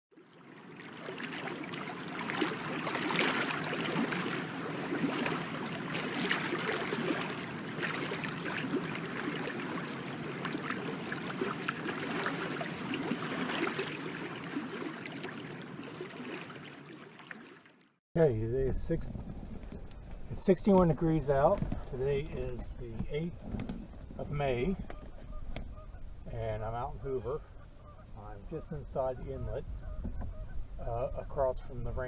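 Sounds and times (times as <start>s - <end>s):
small waves lapping against boat hull: 0.2s - 30.8s.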